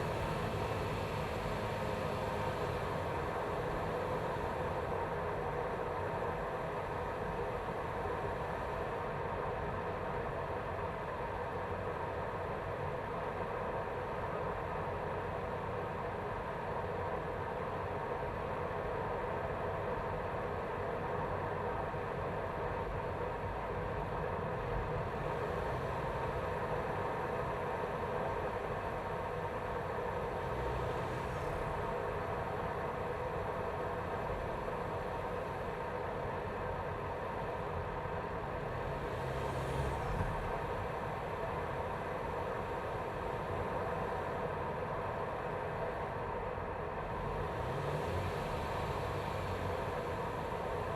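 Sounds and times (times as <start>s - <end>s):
car engine running steadily: 0.0s - 50.9s.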